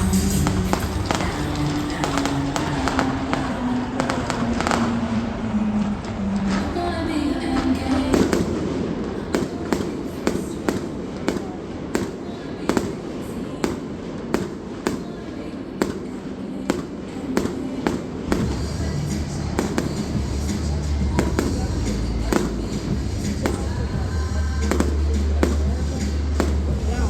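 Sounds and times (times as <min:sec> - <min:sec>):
firework shells bursting: 0:00.0 - 0:27.0.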